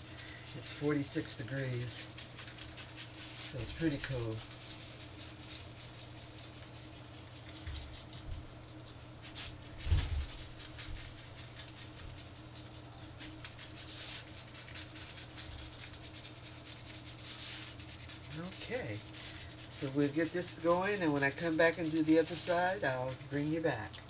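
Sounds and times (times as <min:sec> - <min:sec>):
seasoning rattling from shaker: 0:00.0 - 0:24.0
steady low hum: 0:00.0 - 0:24.0.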